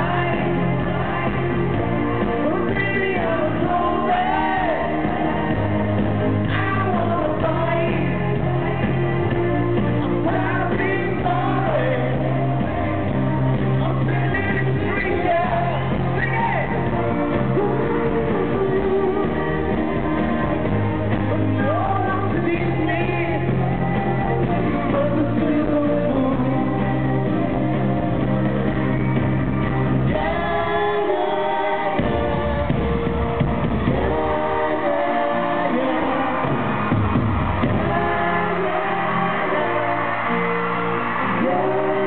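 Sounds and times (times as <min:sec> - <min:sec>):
man singing: 0:00.0 - 0:28.1, 0:30.0 - 0:33.1, 0:33.8 - 0:36.9, 0:37.6 - 0:42.0
live pop band playing: 0:00.0 - 0:42.0.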